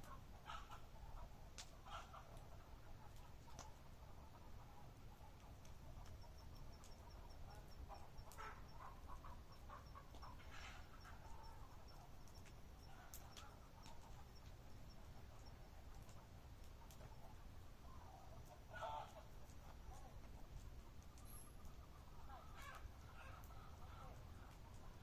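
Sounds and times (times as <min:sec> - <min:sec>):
fowl clucking: 0:00.0 - 0:20.4, 0:21.6 - 0:25.0
sharp crackles: 0:01.5 - 0:03.9, 0:05.2 - 0:25.0.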